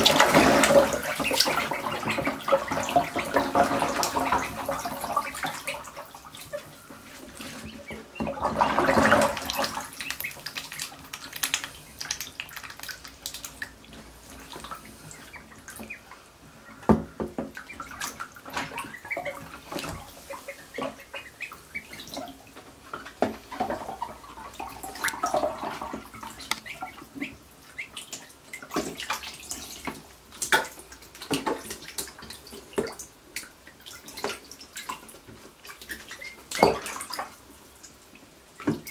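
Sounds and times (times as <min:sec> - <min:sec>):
ducklings splashing in water: 0:00.0 - 0:38.9.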